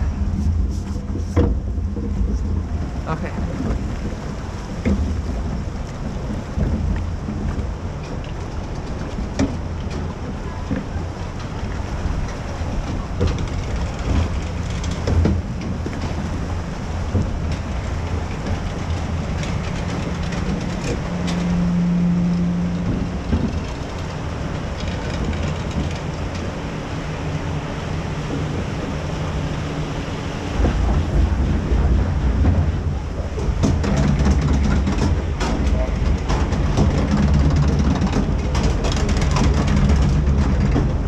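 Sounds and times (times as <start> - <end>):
hum: 0.0 - 41.0
lift hill conveyor rumble: 0.0 - 41.0
log flume boat rumbling on water: 0.0 - 41.0.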